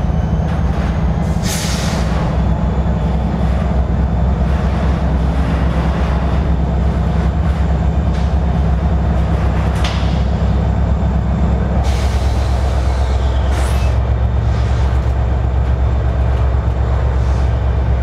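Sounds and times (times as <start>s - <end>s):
train cars rumbling on rails: 0.0s - 18.0s.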